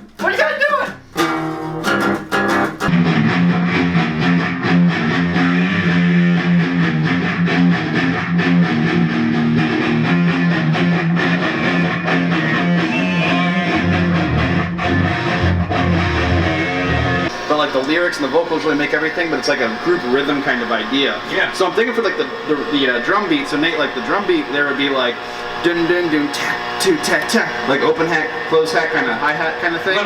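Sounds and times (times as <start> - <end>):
guitar sustained chords: 0.0 - 30.0
bass line: 1.2 - 30.0.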